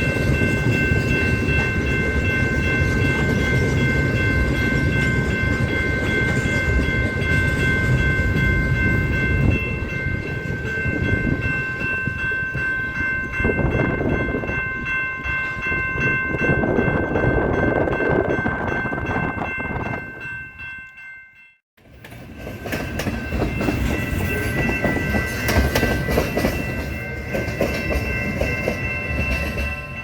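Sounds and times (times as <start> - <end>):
freight train rumbling and clattering: 0.0 - 20.3, 21.8 - 30.0.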